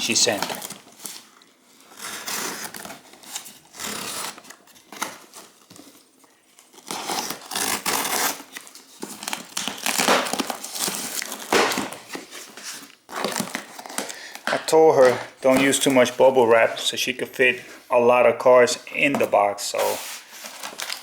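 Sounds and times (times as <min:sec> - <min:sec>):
packing material crinkling: 0:00.0 - 0:16.7, 0:19.3 - 0:21.0.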